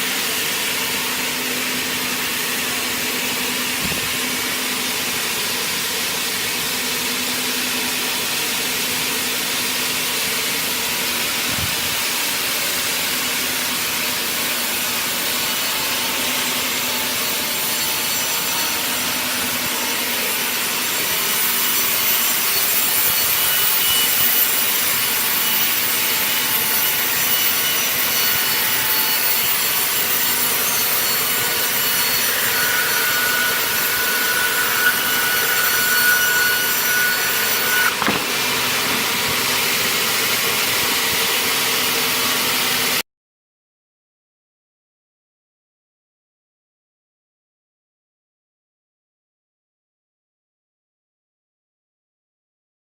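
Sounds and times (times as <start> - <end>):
circular saw blade sawing wood: 0.1 - 42.9.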